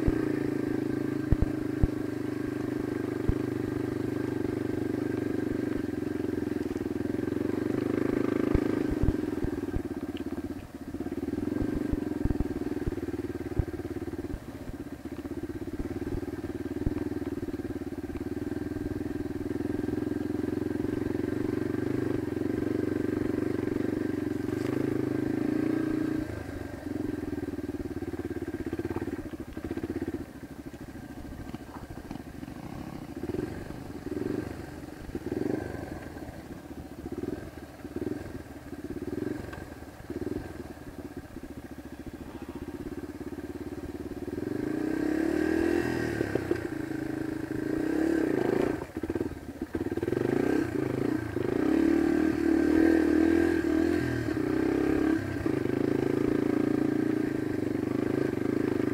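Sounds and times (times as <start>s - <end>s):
dirt bike engine revving: 0.0s - 9.9s, 11.2s - 14.2s, 18.4s - 30.2s, 31.2s - 40.6s, 41.9s - 58.9s.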